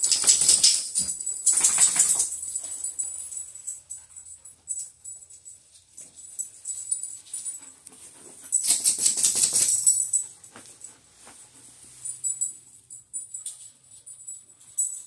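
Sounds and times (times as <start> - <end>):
collar tags jingling: 0.0 - 15.0.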